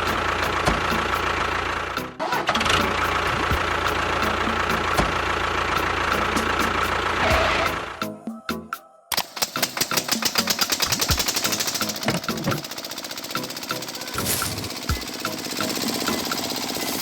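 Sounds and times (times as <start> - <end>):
engine running: 0.0 - 8.1, 9.2 - 17.0.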